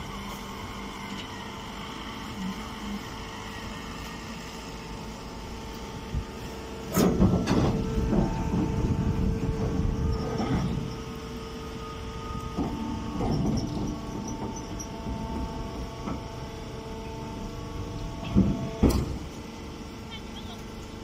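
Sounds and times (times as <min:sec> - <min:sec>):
baler power unit humming: 0:00.0 - 0:21.0.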